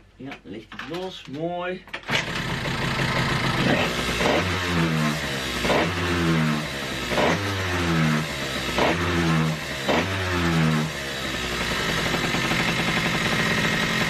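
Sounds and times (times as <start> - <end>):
scooter engine starter whirring: 2.0 - 14.0.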